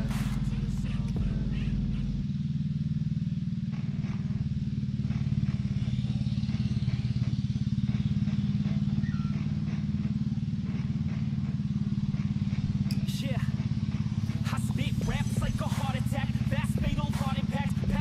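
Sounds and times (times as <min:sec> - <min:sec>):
engine running with low throb: 0:00.0 - 0:18.0.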